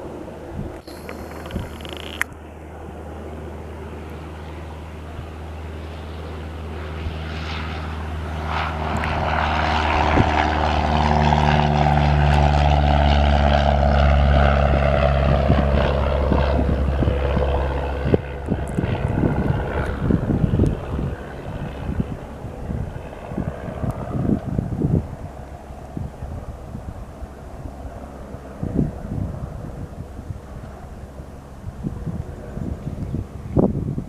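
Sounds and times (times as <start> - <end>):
wind buffeting microphone: 0.0 - 2.3, 8.6 - 34.0
propeller plane engine passing: 0.0 - 34.0.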